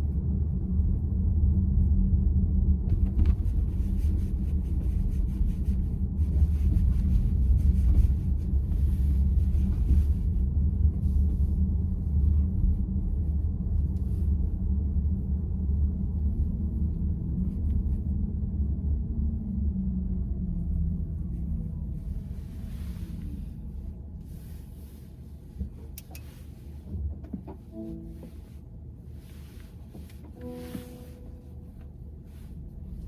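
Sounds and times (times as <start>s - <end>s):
road and tyre noise in cabin: 0.0s - 33.0s.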